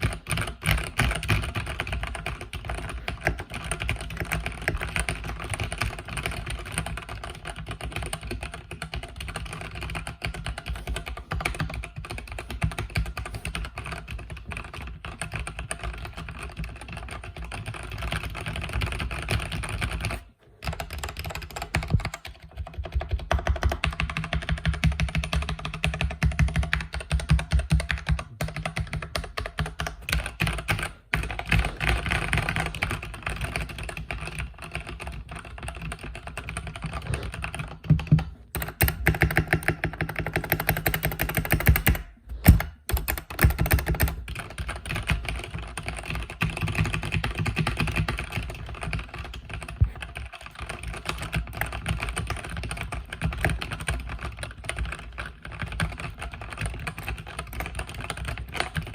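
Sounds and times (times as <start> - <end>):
fast typing on mechanical keyboard: 0.0 - 58.9.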